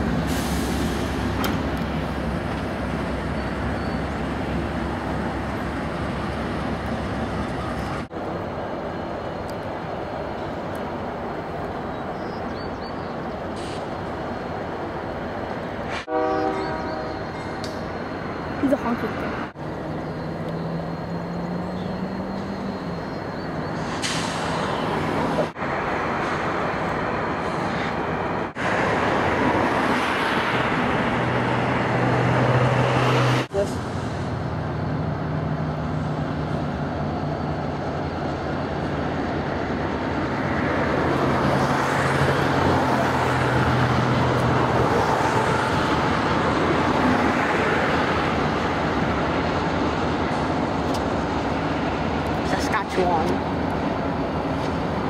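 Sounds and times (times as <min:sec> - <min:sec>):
diesel locomotive engine drone: 0:00.0 - 0:55.0
freight train rolling past: 0:00.0 - 0:55.0.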